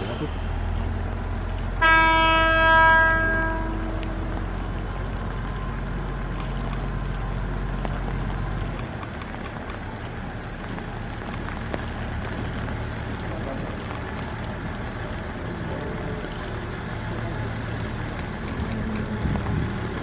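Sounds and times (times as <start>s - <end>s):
diesel railcar engine running: 0.0s - 20.0s
rain hiss: 0.0s - 20.0s.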